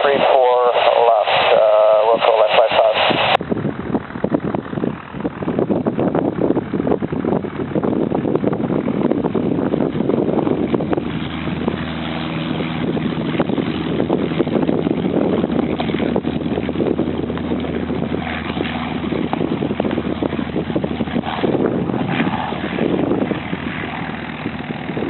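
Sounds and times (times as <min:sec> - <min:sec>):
airplane engine and propeller drone: 0:00.0 - 0:25.0.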